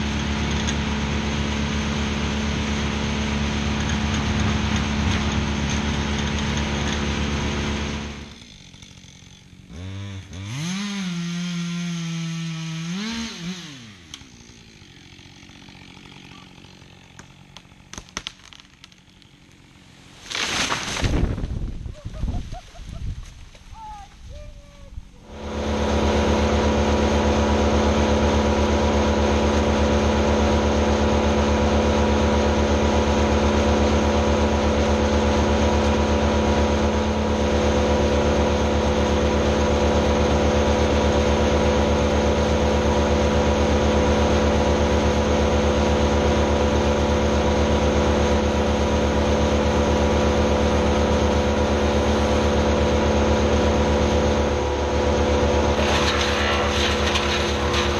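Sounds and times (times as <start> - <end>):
chainsaw cutting at high revs: 0.0 - 21.0, 25.2 - 57.9.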